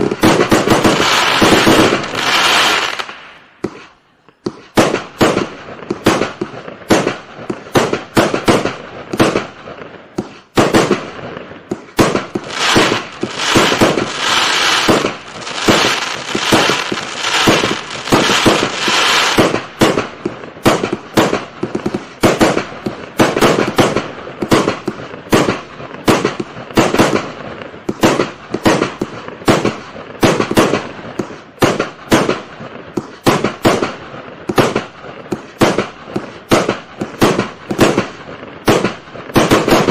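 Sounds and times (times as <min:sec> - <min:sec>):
firework cake firing: 0:00.0 - 0:39.9.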